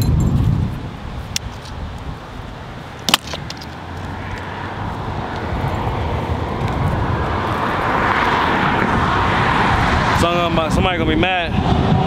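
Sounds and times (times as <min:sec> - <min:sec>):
road vehicle approaching: 0:02.1 - 0:12.0.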